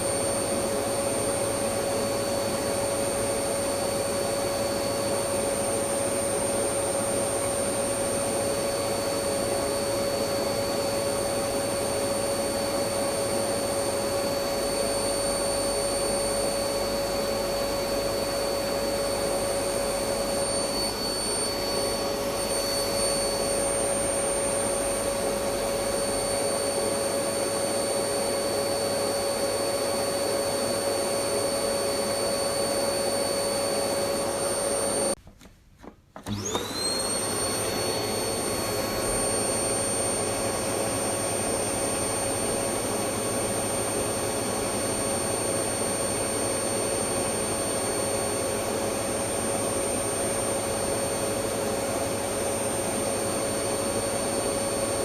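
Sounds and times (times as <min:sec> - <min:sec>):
vacuum cleaner running: 0:00.0 - 0:35.2, 0:35.8 - 0:55.0.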